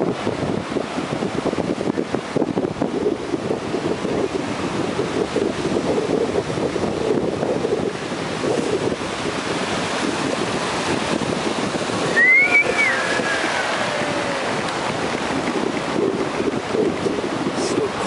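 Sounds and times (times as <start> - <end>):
ocean surf washing in: 0.0 - 18.0
wind buffeting microphone: 0.0 - 18.0.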